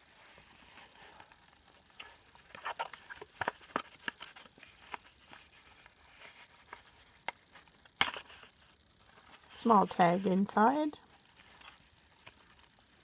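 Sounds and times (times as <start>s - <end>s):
paper rustling and crinkling: 0.0s - 10.2s, 11.1s - 13.0s.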